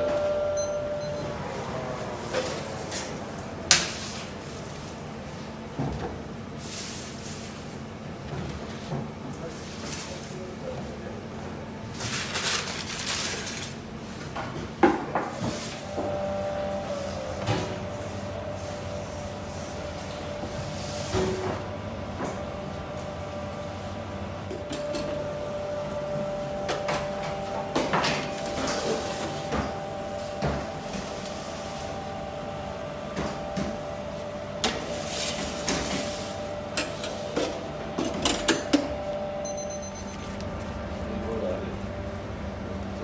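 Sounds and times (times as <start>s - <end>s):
bakery machinery humming: 0.0s - 43.0s.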